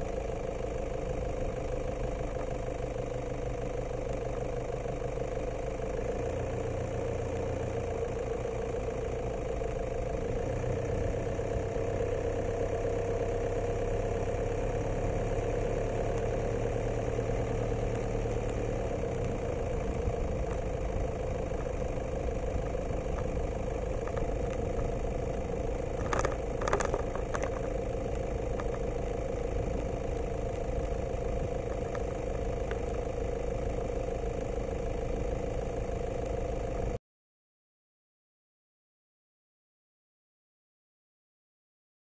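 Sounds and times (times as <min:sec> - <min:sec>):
steady motor hum: 0:00.0 - 0:37.0.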